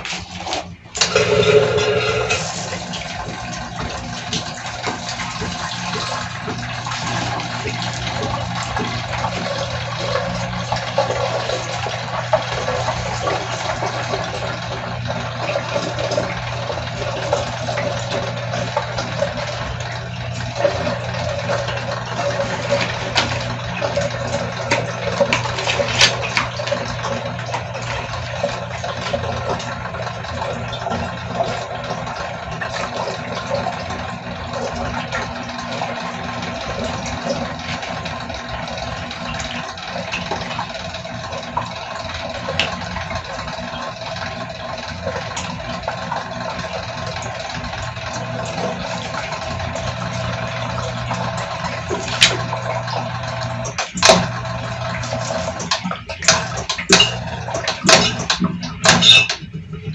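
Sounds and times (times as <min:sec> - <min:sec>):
electric water pump hum: 0:00.0 - 0:59.9
water pouring and splashing: 0:00.0 - 0:59.9.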